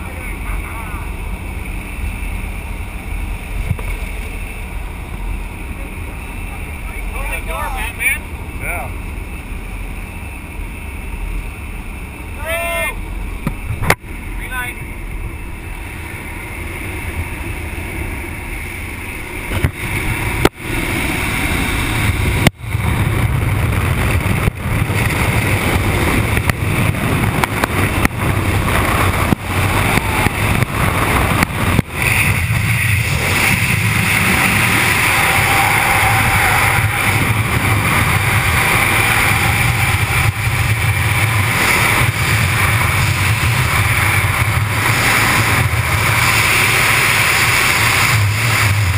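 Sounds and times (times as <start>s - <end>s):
freefall wind on microphone: 0.0s - 48.9s
plane engine and propeller: 0.0s - 48.9s.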